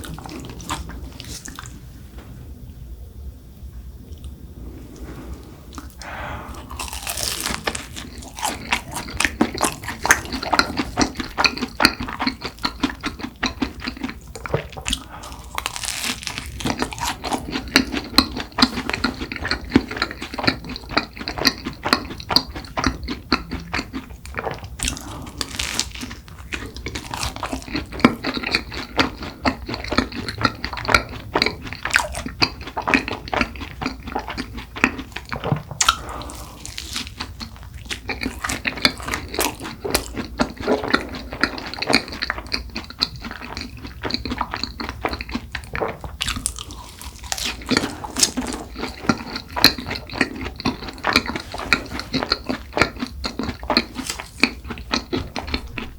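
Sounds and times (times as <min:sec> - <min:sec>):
crunchy pastry being chewed: 0:00.0 - 0:01.8, 0:05.7 - 0:55.9.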